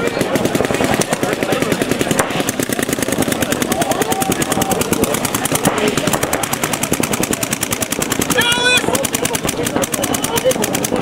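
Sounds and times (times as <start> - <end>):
paintball markers firing rapidly: 0.0 - 11.0.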